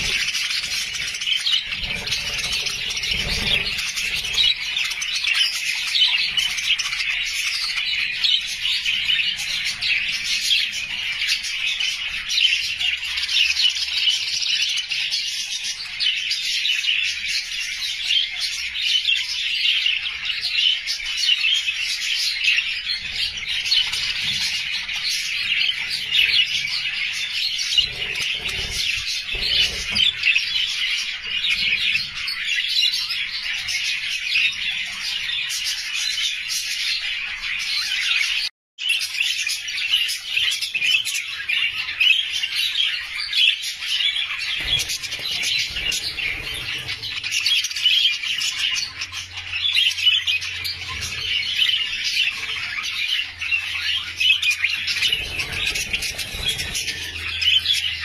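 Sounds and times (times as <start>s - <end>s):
budgerigars chattering: 0.0s - 14.8s, 19.7s - 36.4s, 39.2s - 58.0s.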